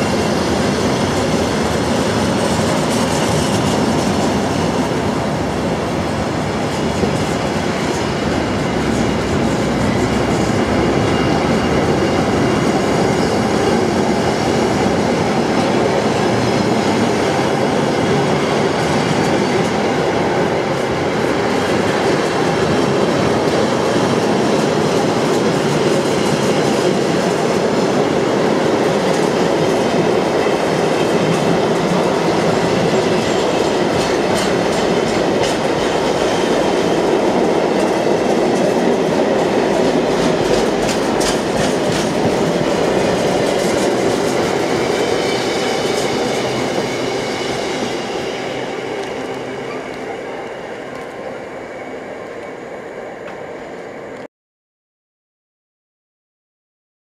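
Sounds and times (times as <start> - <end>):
freight train wheels rumbling: 0.0 - 54.2.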